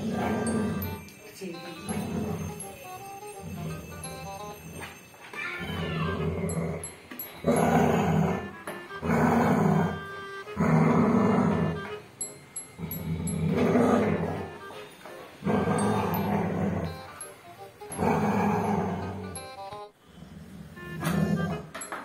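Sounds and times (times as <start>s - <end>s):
dog growling in play: 0.0s - 1.1s, 1.8s - 4.6s, 5.6s - 11.9s, 12.8s - 14.6s, 15.4s - 17.2s, 17.9s - 21.7s.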